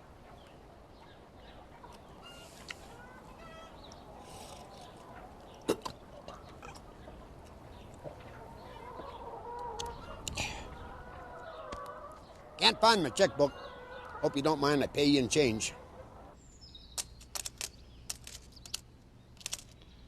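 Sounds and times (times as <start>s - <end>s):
hens clucking: 0.0s - 16.4s.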